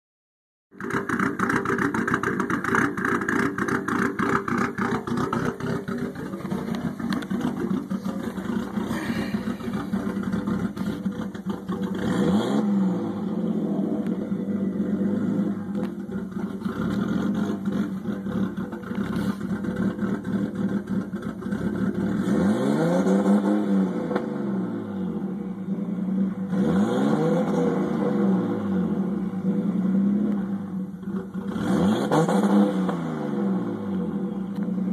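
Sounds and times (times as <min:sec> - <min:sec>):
car engine rough idle revving: 0:00.7 - 0:34.9.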